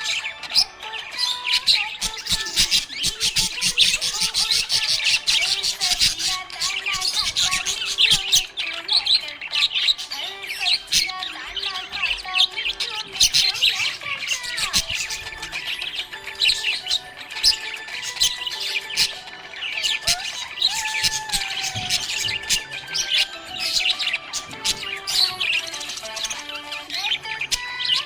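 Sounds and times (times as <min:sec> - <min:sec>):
parrots chirping and chattering: 0:00.0 - 0:28.0.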